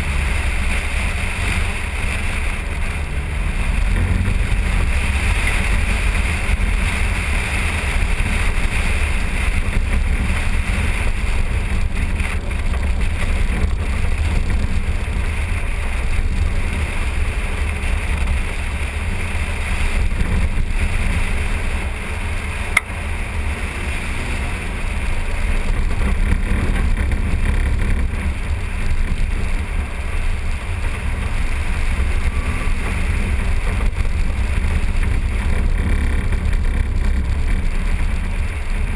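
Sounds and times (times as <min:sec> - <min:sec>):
engine noise: 0:00.0 - 0:38.9.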